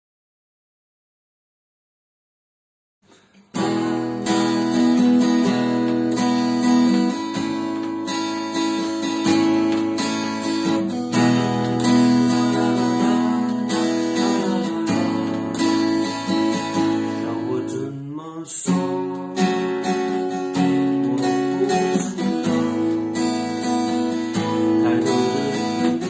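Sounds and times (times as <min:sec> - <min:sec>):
acoustic guitar strumming chords: 0:03.1 - 0:26.0.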